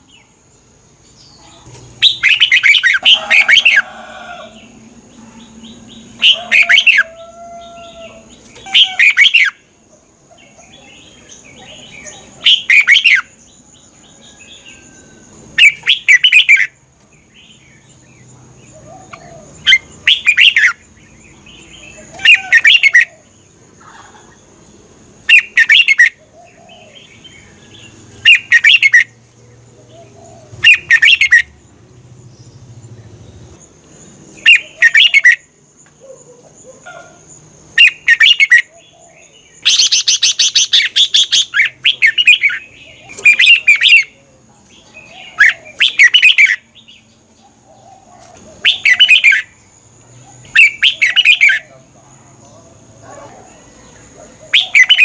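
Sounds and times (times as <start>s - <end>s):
bulbul singing: 0.0s - 55.0s.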